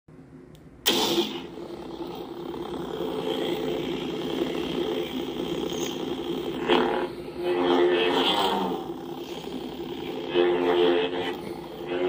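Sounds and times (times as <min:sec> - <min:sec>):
lightsaber electric hum: 0:00.2 - 0:12.0
lightsaber ignition: 0:00.8 - 0:12.0.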